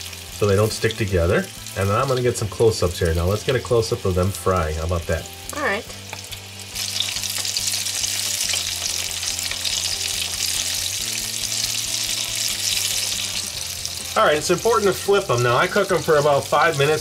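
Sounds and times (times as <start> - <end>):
oil sizzling while deep-frying: 0.0 - 17.0.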